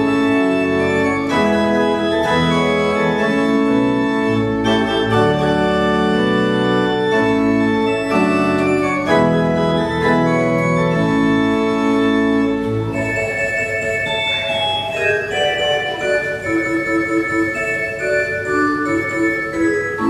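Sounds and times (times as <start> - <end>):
deep organ bass notes: 0.0 - 20.0
pipe organ chords: 0.0 - 20.0.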